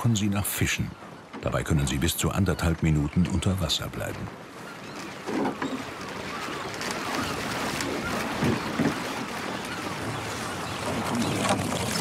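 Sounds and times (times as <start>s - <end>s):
water splashing along boat hull: 0.0s - 12.0s
wind: 0.0s - 12.0s.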